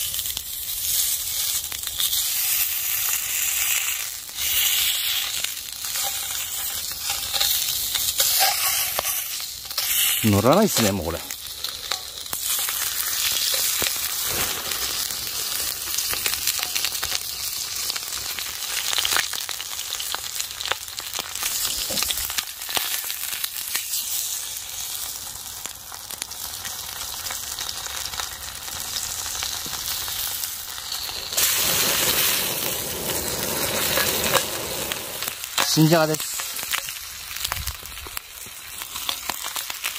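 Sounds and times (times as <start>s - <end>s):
bacon sizzling in a frying pan: 0.0s - 39.9s.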